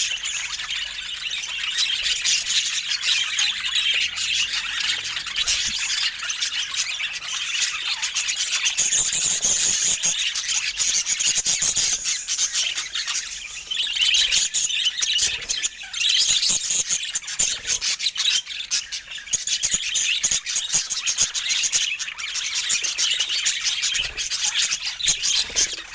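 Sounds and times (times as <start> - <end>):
budgerigars chattering: 0.0 - 25.9.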